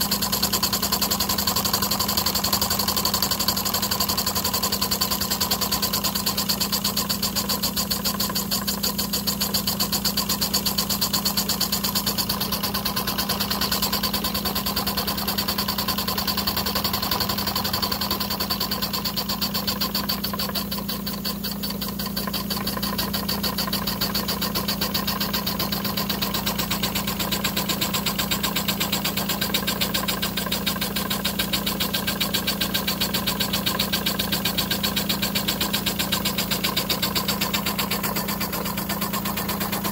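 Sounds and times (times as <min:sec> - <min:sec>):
toy steam engine running: 0:00.0 - 0:39.9.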